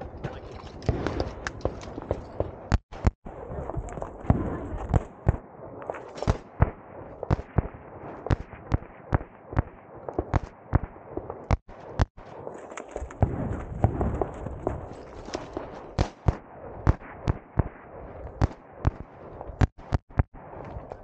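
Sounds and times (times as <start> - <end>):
rifle gunshots: 0.9 - 20.9.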